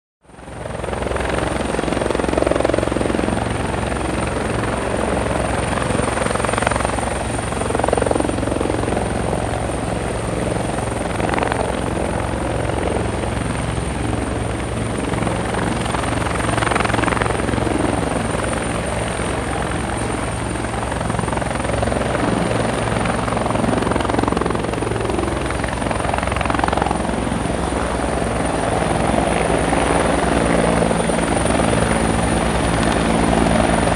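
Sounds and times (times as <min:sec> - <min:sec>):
helicopter rotor blades chopping: 0:00.3 - 0:33.9.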